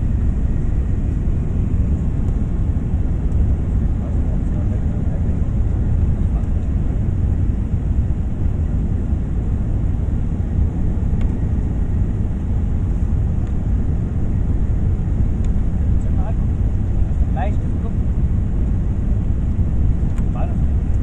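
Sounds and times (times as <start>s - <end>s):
airliner engine rumble: 0.0s - 21.0s.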